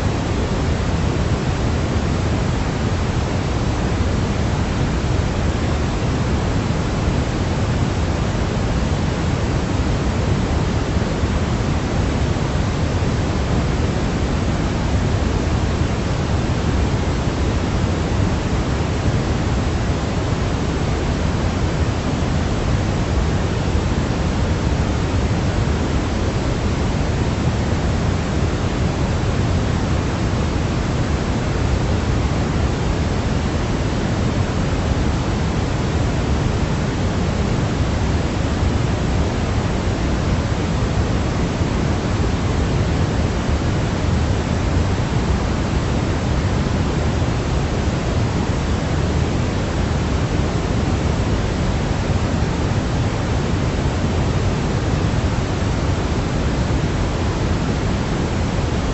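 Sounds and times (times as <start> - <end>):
continuous low hiss noise: 0.0 - 58.9.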